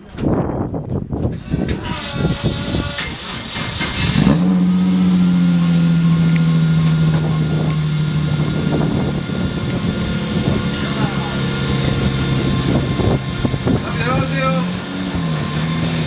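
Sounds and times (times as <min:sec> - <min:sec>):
race car engine revving: 0:01.3 - 0:16.0.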